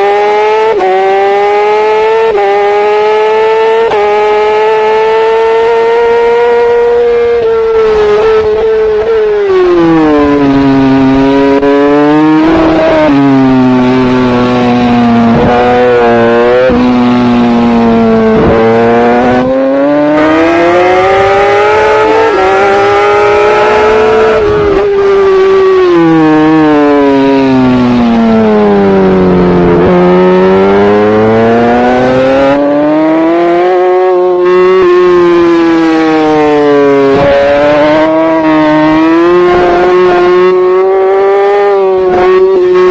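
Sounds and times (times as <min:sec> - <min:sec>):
motorbike engine racing: 0:00.0 - 0:42.9.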